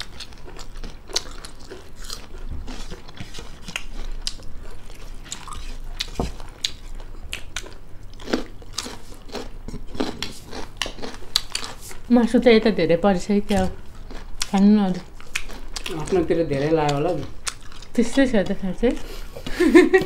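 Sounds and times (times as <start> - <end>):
people chewing crunchy food: 0.0 - 12.4, 13.2 - 20.0.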